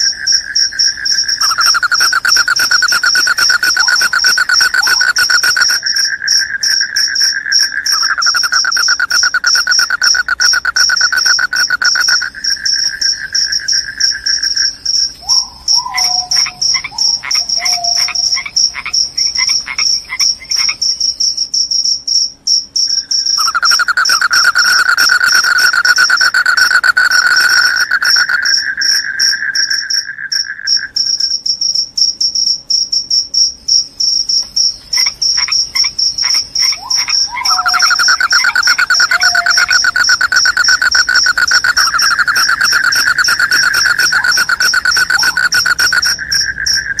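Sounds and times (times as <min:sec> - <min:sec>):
high steady cricket trill: 0:00.0 - 0:47.0
lower cricket trill: 0:00.0 - 0:47.0
short cricket chirps: 0:00.0 - 0:47.0.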